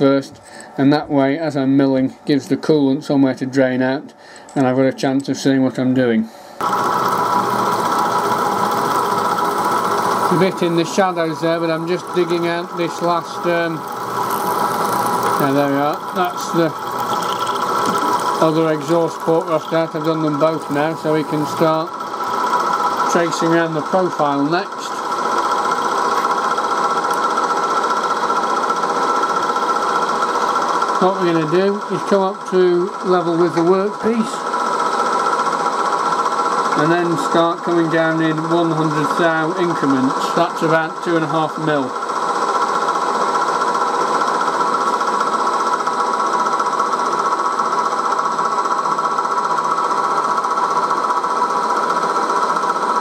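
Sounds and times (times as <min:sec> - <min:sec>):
milling machine running: 0:06.6 - 0:53.0.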